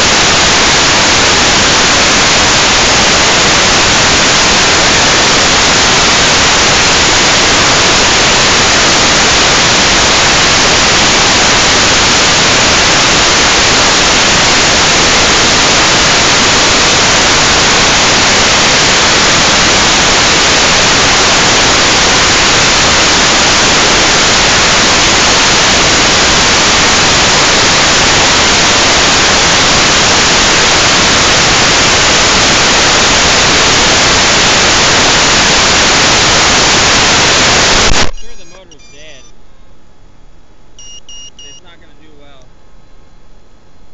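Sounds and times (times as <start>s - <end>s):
static hiss: 0.0s - 43.9s.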